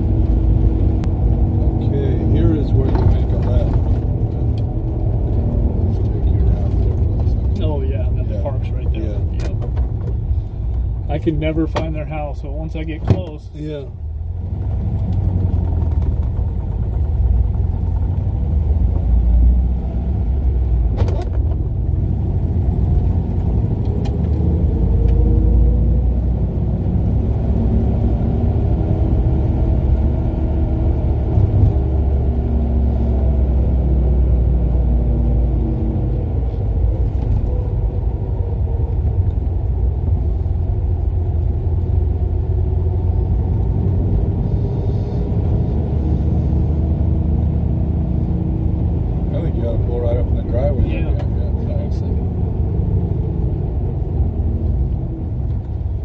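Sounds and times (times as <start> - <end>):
car engine running: 0.0 - 56.0
road rumble: 0.0 - 56.0.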